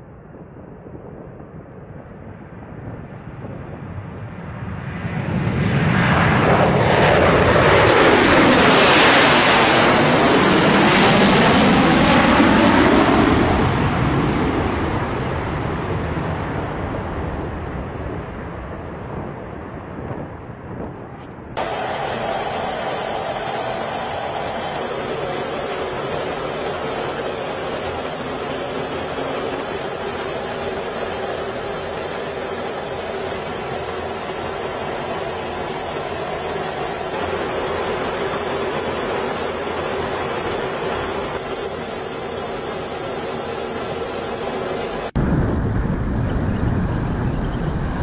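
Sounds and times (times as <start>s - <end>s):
jet aircraft engines rushing: 0.0s - 48.0s.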